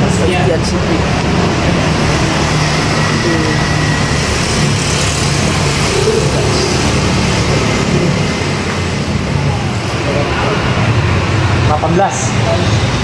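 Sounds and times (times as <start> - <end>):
car engine: 0.0 - 13.0
road traffic: 0.0 - 13.0.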